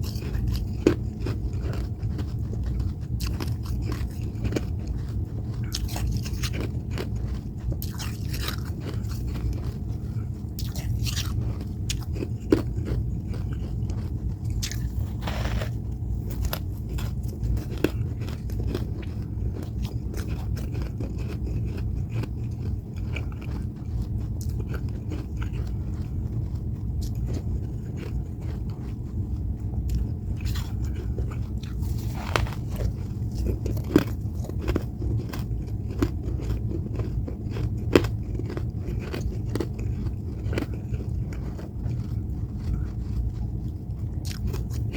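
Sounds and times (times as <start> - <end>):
chewing and crunching frost: 0.0 - 44.9
steady low hum: 0.0 - 44.9.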